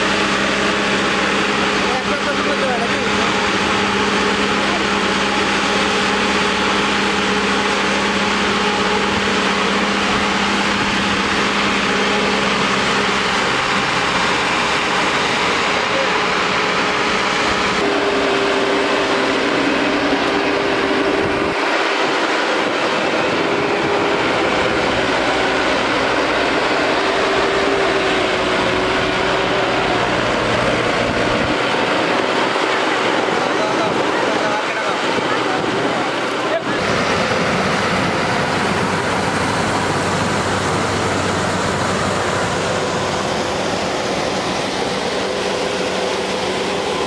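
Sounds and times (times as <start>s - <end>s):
diesel engine hum: 0.0s - 47.0s.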